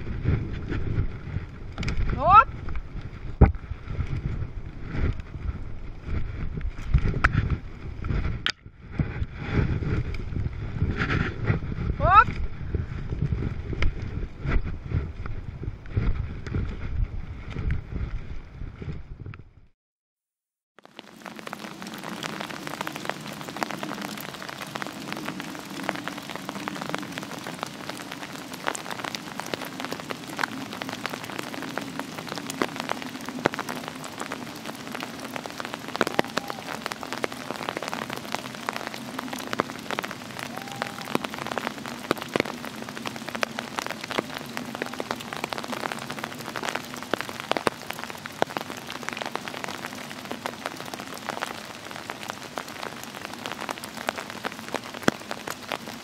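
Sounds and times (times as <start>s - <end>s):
rain dripping on leaves: 0.0s - 16.8s, 20.8s - 56.0s.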